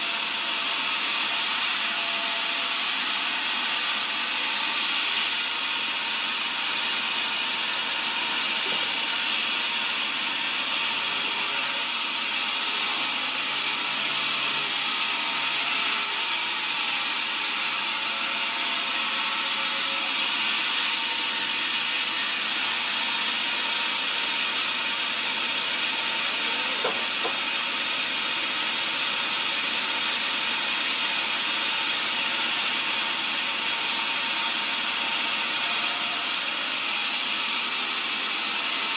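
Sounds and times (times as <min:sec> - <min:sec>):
band sawmill sawing log: 0:00.0 - 0:38.9.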